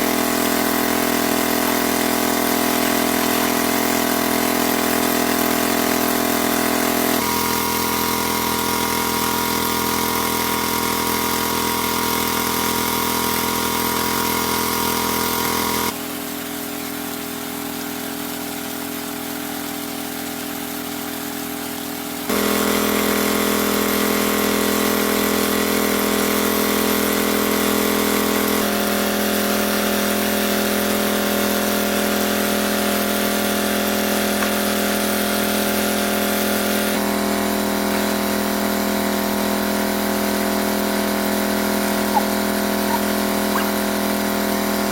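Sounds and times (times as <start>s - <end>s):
small engine droning: 0.0s - 16.0s, 22.3s - 44.9s.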